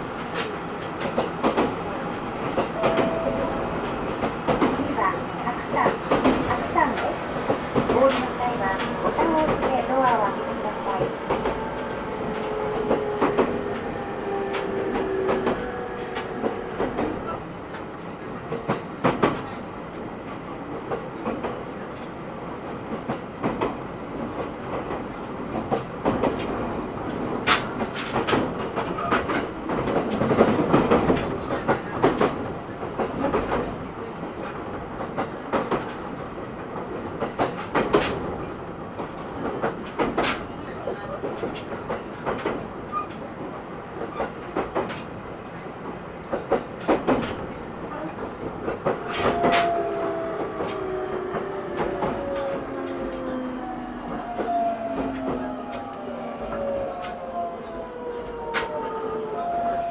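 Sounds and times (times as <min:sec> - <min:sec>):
rail joint clicks: 0:00.0 - 0:59.1
train wheels rumbling on track: 0:00.0 - 0:59.9.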